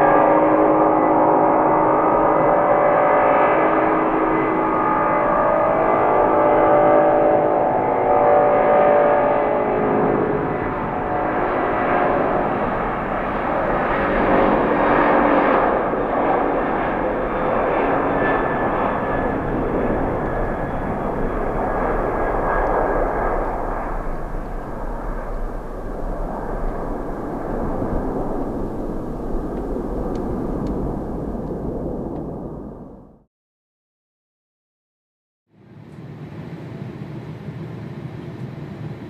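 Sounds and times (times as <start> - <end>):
faint steady whines: 0.0 - 33.0, 35.6 - 39.0
jet engines at takeoff thrust: 0.0 - 33.2, 35.6 - 39.0.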